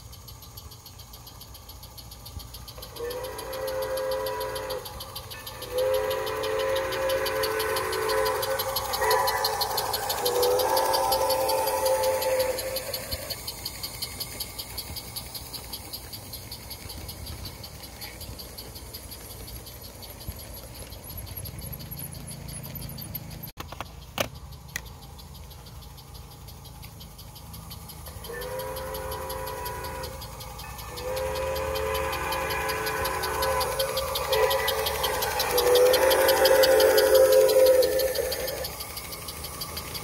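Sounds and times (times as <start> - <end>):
steady pitched whistle tone: 0.0 - 23.6, 24.3 - 40.0
fast high ticking: 0.0 - 40.0
model trains rumbling on track: 0.0 - 40.0.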